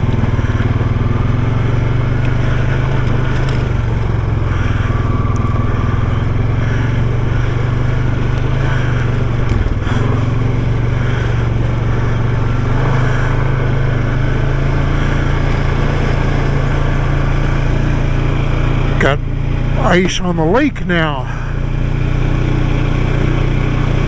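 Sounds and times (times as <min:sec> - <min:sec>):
off-road vehicle engine running: 0:00.0 - 0:24.0.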